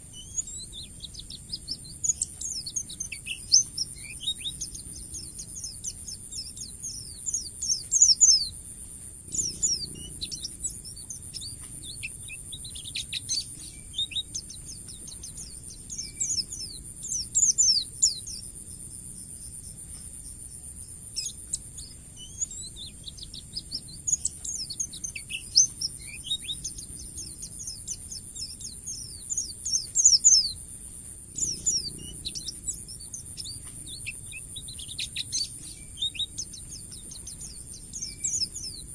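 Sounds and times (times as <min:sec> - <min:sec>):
bird chattering song: 0:00.0 - 0:38.9
steady high-pitched whine: 0:00.0 - 0:38.9.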